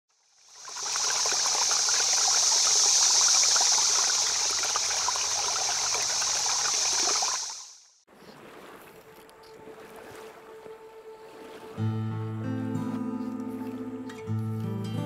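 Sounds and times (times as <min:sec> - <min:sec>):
stream water rushing and bubbling: 0:00.1 - 0:13.9.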